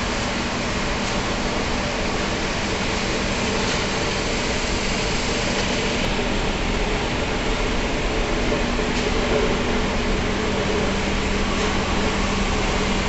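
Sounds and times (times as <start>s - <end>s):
industrial machinery hiss: 0.0s - 13.0s.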